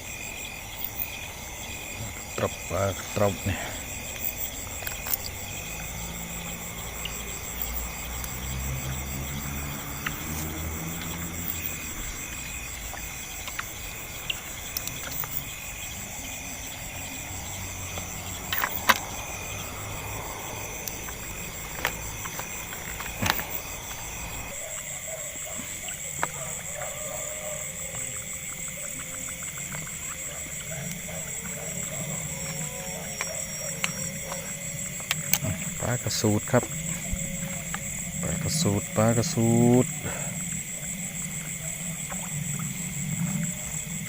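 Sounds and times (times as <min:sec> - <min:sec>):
crickets trilling: 0:00.0 - 0:44.0.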